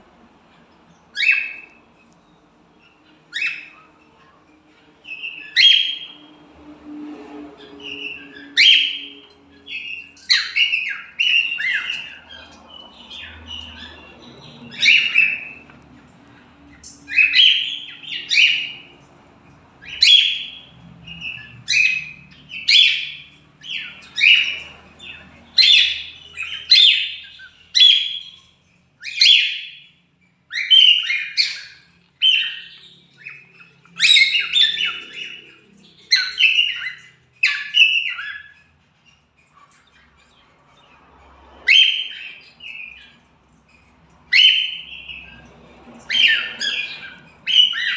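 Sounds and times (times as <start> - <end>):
cockatiels chirping: 0.3 - 6.6, 7.2 - 47.9.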